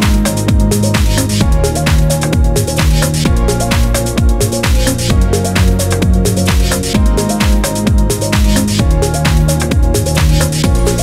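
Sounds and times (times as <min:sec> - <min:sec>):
electronic music with deep beat: 0:00.0 - 0:11.0.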